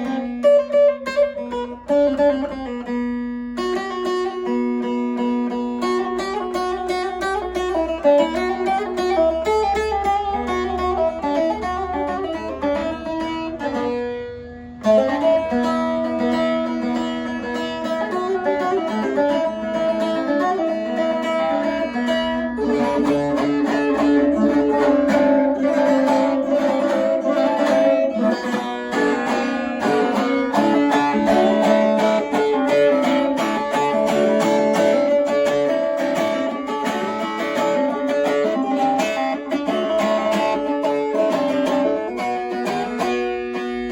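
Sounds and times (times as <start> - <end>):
plucked string melody: 0.0 - 43.9.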